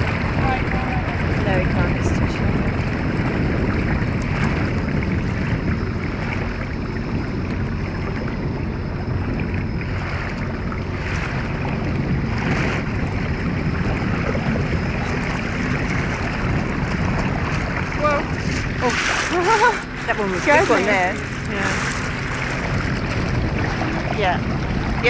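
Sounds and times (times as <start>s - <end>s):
small boat engine rumble: 0.0s - 25.0s
water splashing along hull: 0.0s - 25.0s
wind on microphone: 0.0s - 25.0s.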